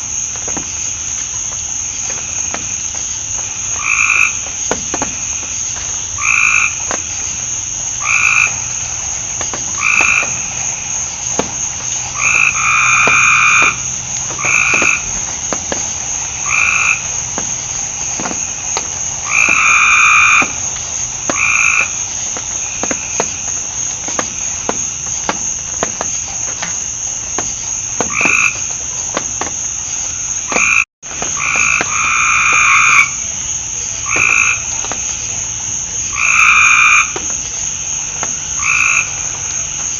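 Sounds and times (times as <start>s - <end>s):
frogs calling in chorus: 2.0s - 26.7s, 27.4s - 39.9s.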